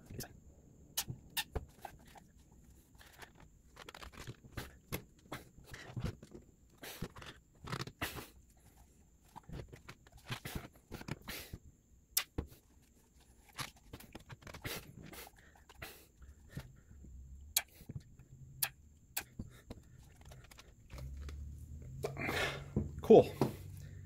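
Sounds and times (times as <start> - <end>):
rubber grip rubbing and scraping: 1.0 - 11.6, 12.2 - 16.8, 17.5 - 22.2.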